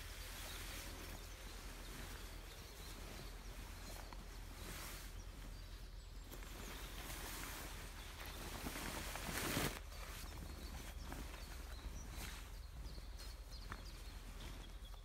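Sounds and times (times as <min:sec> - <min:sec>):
outdoor background noise: 0:00.0 - 0:15.0
tent canvas rustling: 0:00.0 - 0:15.0.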